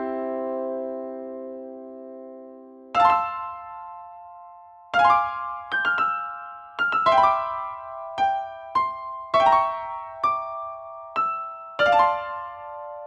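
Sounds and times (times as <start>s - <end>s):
piano-like keyboard music: 0.0s - 13.0s.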